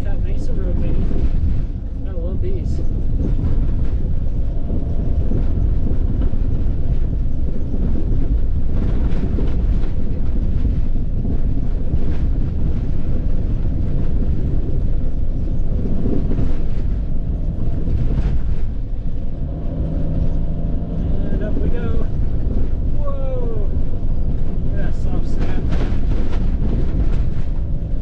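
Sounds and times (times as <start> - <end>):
van driving on dirt road: 0.0 - 28.0.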